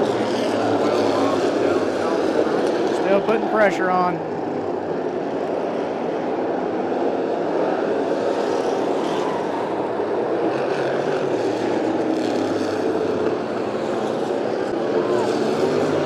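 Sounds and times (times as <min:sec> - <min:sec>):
race car engines at speed: 0:00.0 - 0:16.0.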